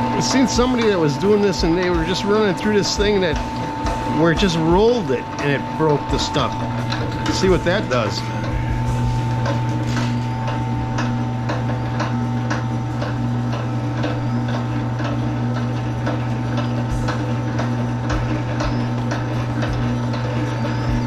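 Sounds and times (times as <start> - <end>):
even machine clicks: 0.0 - 21.0
machine humming: 0.0 - 21.0.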